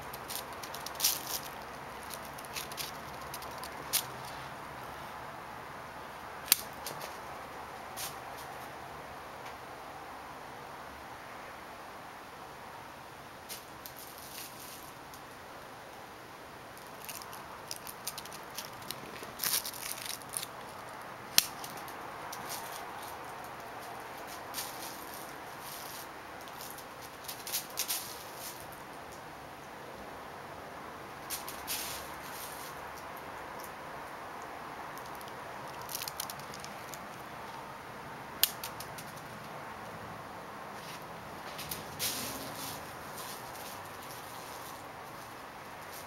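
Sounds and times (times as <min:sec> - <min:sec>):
faint hiss: 0:00.0 - 0:46.0.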